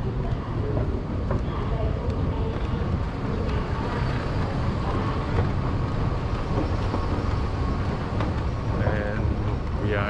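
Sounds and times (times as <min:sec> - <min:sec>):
metro station low rumble: 0:00.0 - 0:10.0
train running noise: 0:00.0 - 0:10.0.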